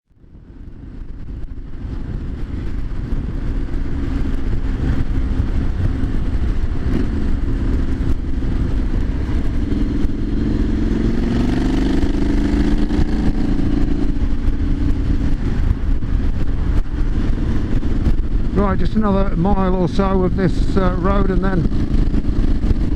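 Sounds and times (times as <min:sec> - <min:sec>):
motorcycle engine running: 0:00.1 - 0:22.9
wind rumble on microphone: 0:00.1 - 0:22.9.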